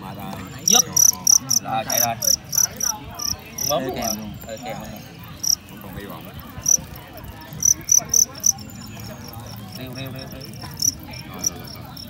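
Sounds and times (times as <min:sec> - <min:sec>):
cricket chirping: 0:00.5 - 0:07.0, 0:07.6 - 0:12.0.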